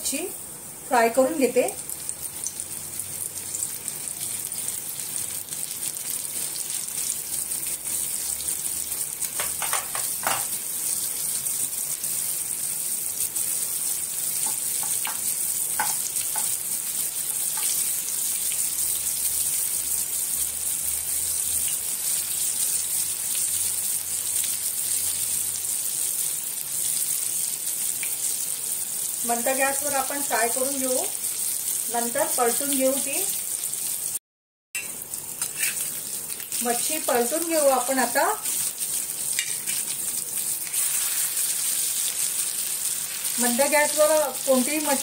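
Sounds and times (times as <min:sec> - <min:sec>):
fish sizzling in hot oil: 0:00.0 - 0:34.2, 0:34.8 - 0:45.0.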